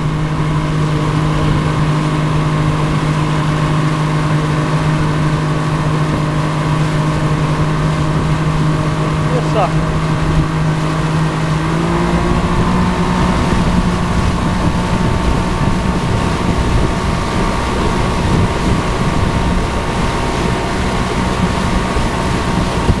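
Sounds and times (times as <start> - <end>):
outboard motor running: 0.0 - 23.0
water churning: 0.0 - 23.0
wind noise: 0.0 - 23.0.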